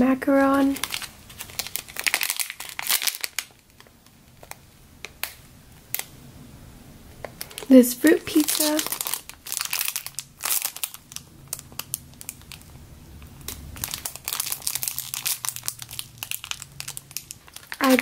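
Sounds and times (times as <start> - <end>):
plastic bag crinkling: 0.3 - 5.3, 7.2 - 18.0.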